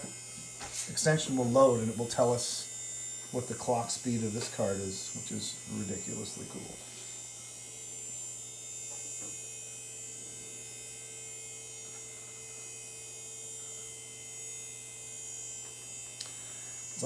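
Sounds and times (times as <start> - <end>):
computer hum and fan noise: 0.0 - 17.0
faint high whining tones: 0.0 - 17.0.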